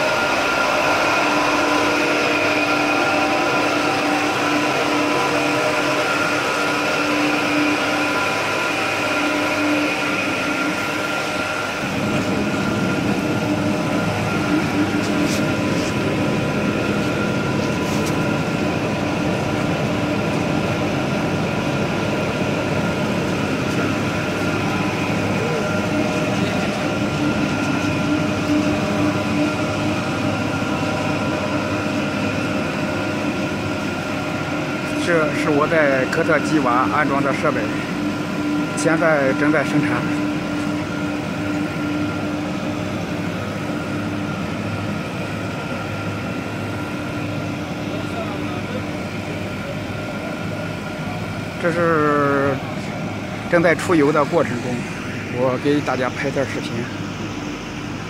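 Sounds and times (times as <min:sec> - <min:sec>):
steady mechanical drone: 0:00.0 - 0:58.0.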